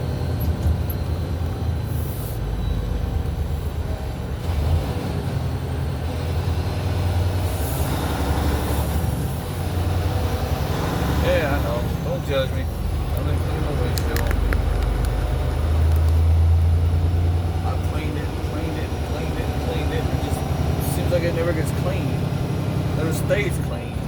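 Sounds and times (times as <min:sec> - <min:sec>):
diesel truck engine drone: 0:00.0 - 0:24.0
road noise: 0:00.0 - 0:24.0.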